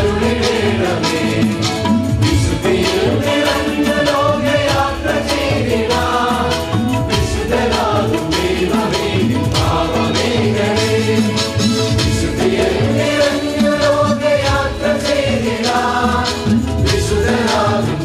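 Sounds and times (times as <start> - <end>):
male choir singing a hymn: 0.0 - 18.0
steady beat: 0.0 - 18.0.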